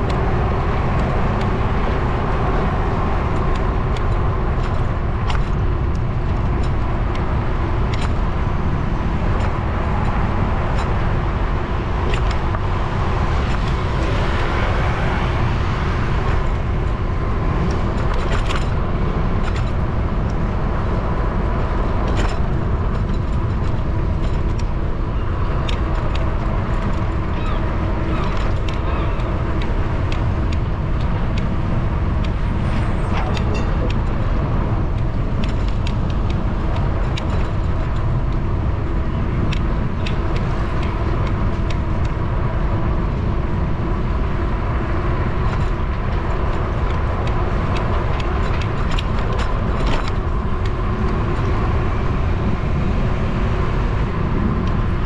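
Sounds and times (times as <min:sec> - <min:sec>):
bicycle clicks and rattles: 0:00.0 - 0:55.0
car traffic passing: 0:00.0 - 0:55.0
wind rushing over microphone: 0:00.0 - 0:55.0.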